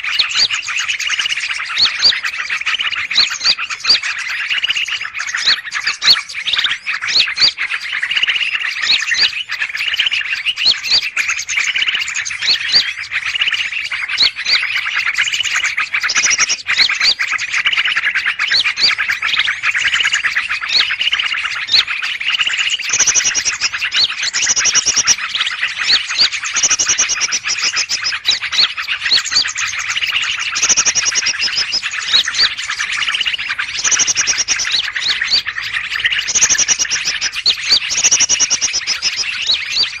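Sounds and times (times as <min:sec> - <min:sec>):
many small birds chirping: 0:00.0 - 0:40.0.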